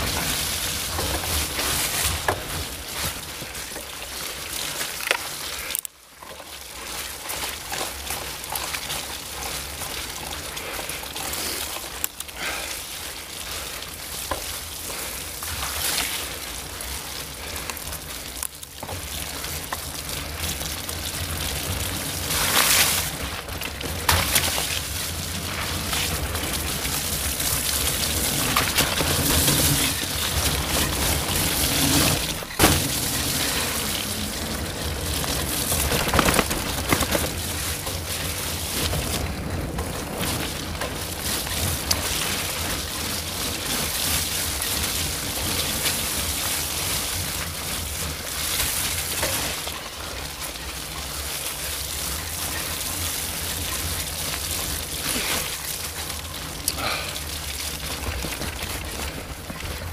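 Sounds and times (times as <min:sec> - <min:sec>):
tyres rolling on muddy trail: 0:00.0 - 0:59.9.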